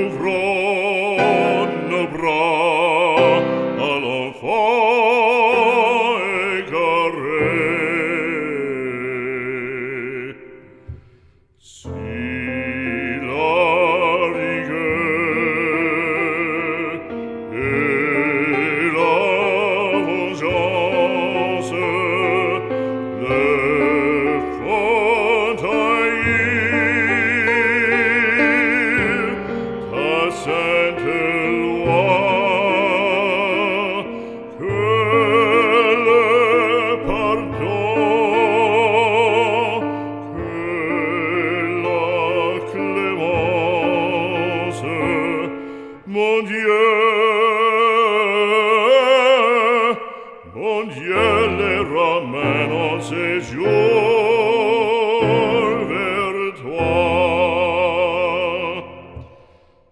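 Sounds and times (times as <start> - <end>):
operatic voice singing: 0.0 - 59.9.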